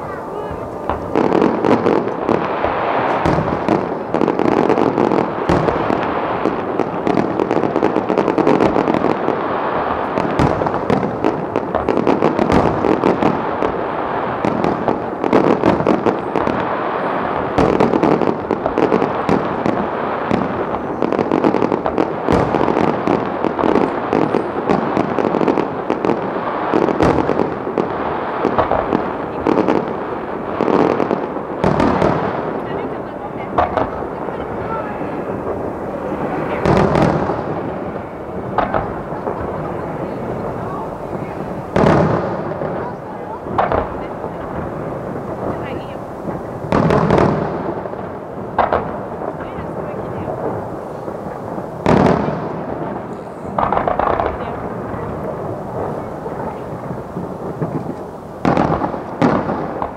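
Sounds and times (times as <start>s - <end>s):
firework shells bursting: 0.0s - 59.9s
fireworks crackling: 0.0s - 59.9s.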